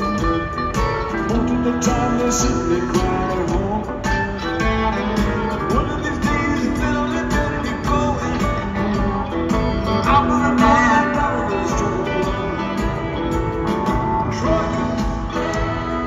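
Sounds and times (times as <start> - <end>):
electric guitars: 0.0 - 16.0
live rock band playing: 0.0 - 16.0.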